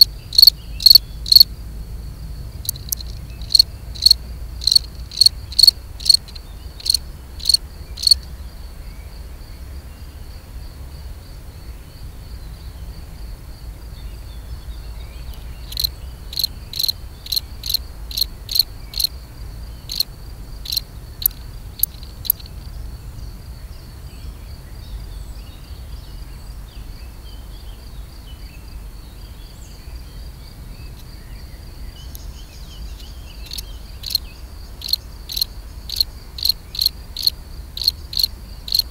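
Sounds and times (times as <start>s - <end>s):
cricket chirping: 0.0s - 38.9s
faint steady cricket trill: 0.0s - 38.9s.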